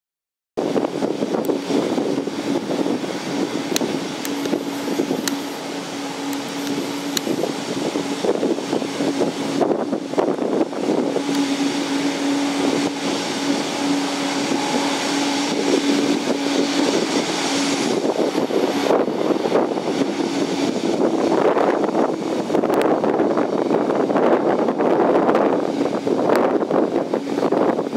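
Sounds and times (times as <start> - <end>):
turboprop engines droning: 0.6 - 27.9.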